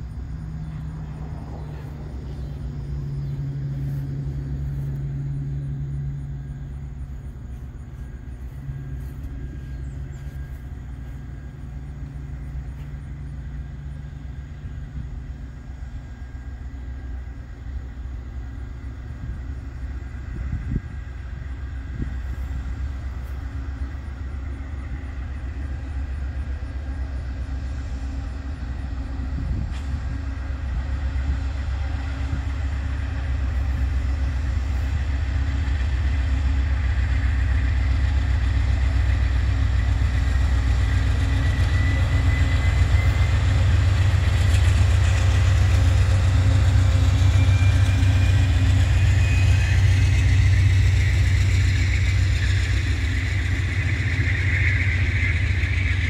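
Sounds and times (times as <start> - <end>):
diesel locomotive rumble: 0.0 - 56.0
steady low hum: 0.0 - 56.0.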